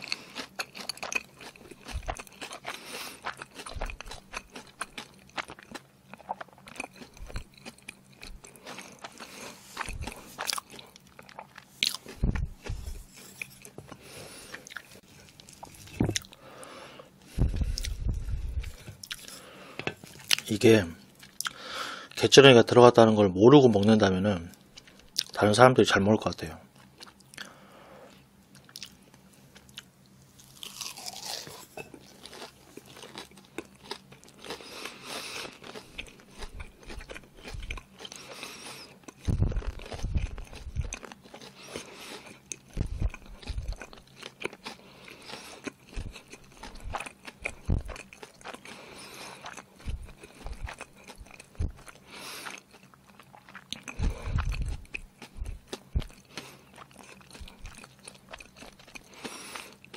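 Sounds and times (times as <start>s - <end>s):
close chewing: 0.0s - 16.6s, 17.2s - 20.6s, 28.5s - 59.9s.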